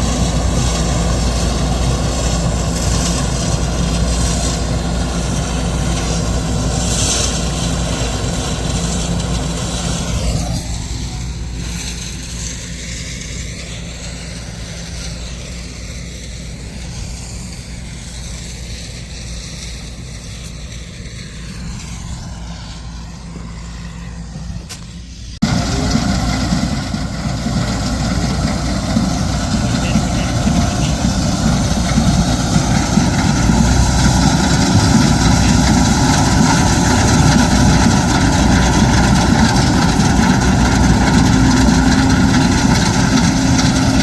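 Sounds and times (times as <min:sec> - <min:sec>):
diesel farm machinery running: 0:00.0 - 0:44.0.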